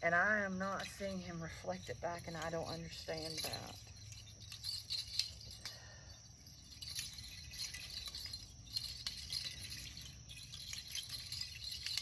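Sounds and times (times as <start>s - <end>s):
faint jingling rattle: 0.0s - 12.0s.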